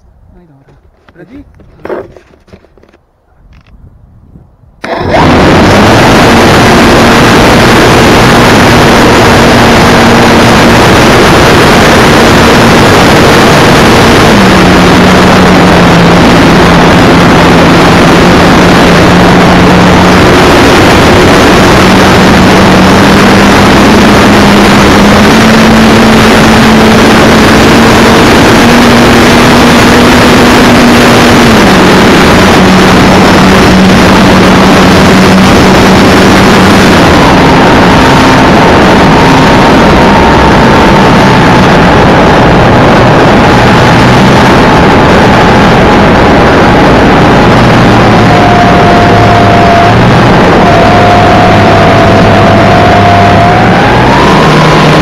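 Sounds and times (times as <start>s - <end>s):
wind noise on microphone: 0.0s - 55.0s
model plane motor humming: 4.8s - 55.0s.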